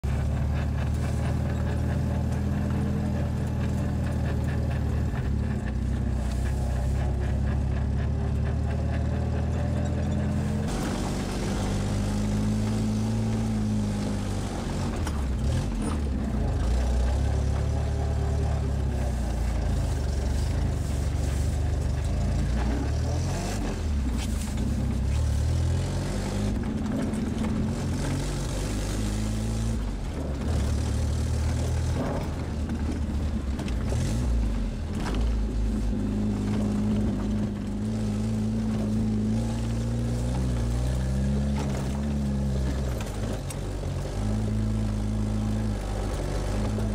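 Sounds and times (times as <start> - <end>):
car engine from inside cabin: 0.0 - 46.9.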